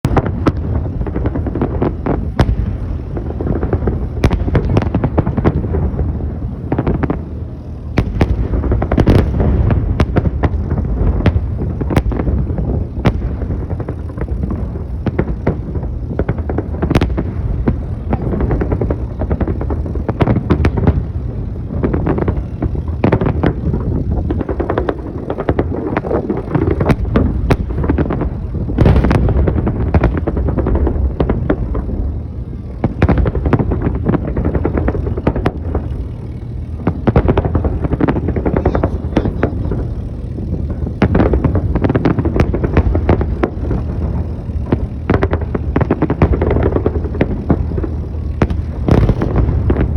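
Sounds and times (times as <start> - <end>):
fireworks bangs: 0.0 - 49.9
steady low rumble: 0.0 - 49.9.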